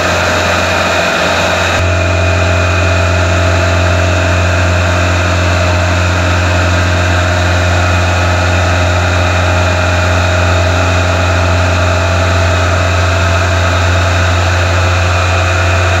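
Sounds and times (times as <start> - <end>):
loud machine drone: 0.0 - 16.0.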